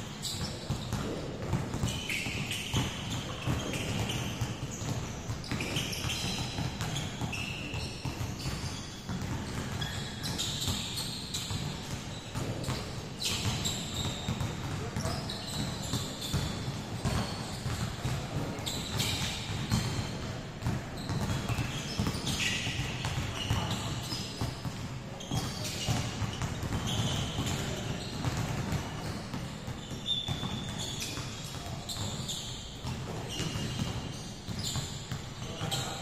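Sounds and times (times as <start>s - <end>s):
basketballs bouncing in gym: 0.0s - 36.0s
shoe squeaks: 0.0s - 36.0s.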